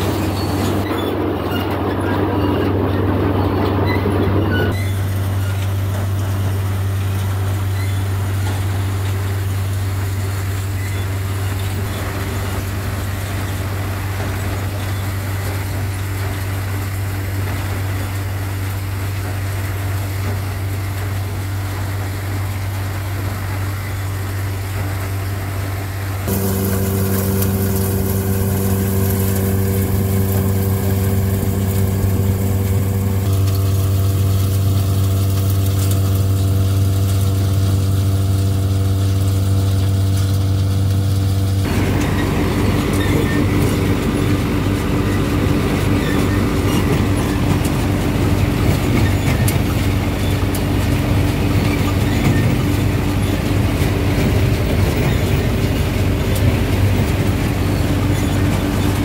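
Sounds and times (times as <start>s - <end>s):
heavy machinery humming: 0.0s - 59.0s.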